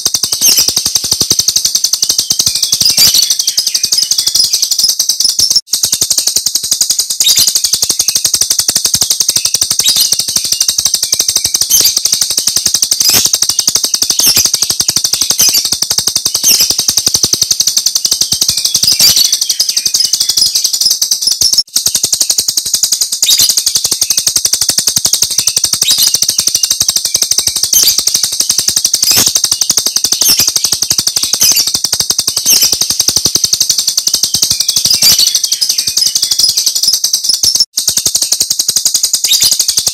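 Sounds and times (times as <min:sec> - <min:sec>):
starling rapid high-pitched call: 0:00.0 - 0:39.9.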